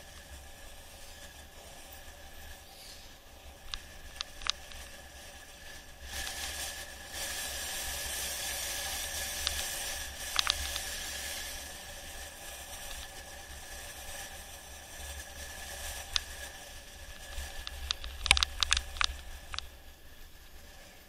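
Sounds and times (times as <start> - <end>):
bicycle tyre hiss on concrete: 0.0 - 21.0
sharp bike clicks over bumps: 0.0 - 21.0.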